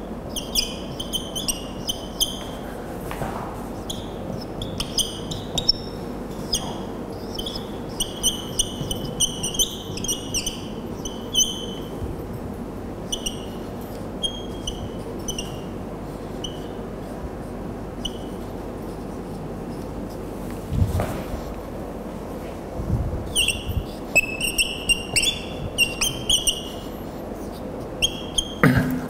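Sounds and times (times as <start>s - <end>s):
marker squeaking on whiteboard: 0.0s - 2.6s, 3.7s - 12.4s, 13.0s - 20.4s, 23.3s - 28.6s
low room hum: 0.0s - 29.0s.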